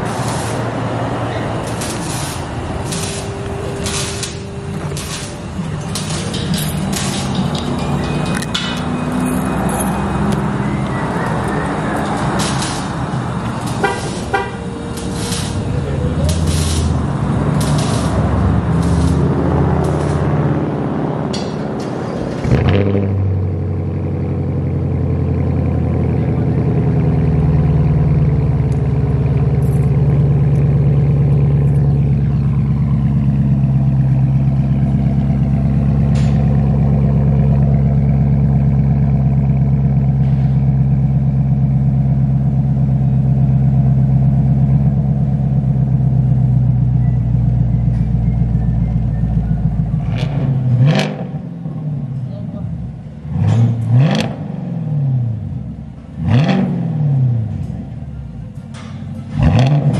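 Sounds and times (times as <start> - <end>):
loud car engine idling: 0.0 - 22.7, 23.3 - 50.0.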